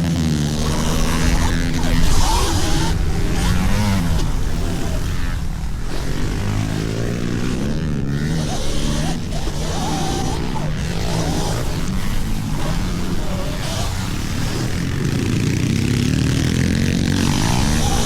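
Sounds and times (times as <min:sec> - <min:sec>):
dirt bike motors revving: 0:00.0 - 0:18.0
steady rush of noise: 0:00.0 - 0:18.0.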